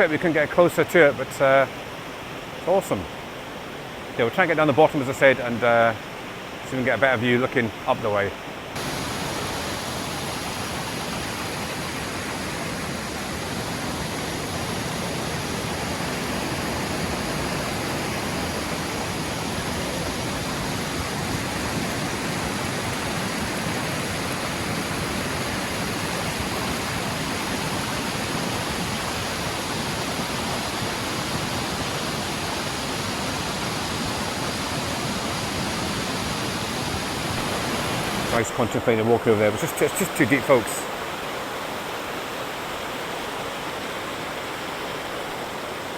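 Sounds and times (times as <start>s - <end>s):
waterfall roaring: 0.2s - 45.9s.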